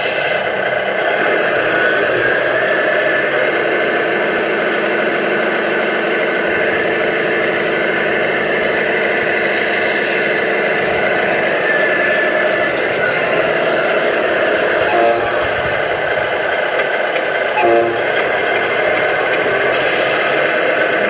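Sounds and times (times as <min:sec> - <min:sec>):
simulated truck engine through speaker: 0:00.0 - 0:21.0.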